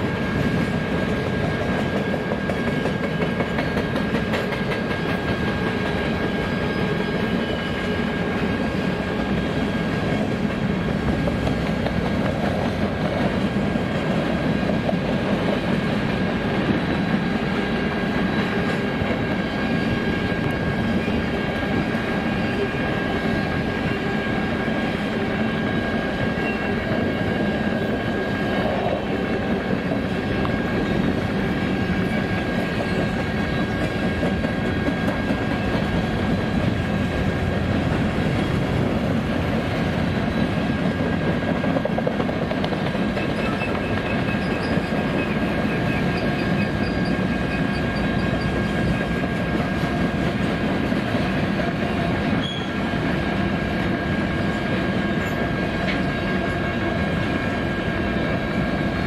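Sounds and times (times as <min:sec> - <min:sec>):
freight train wheels clattering: 0:00.0 - 0:53.1.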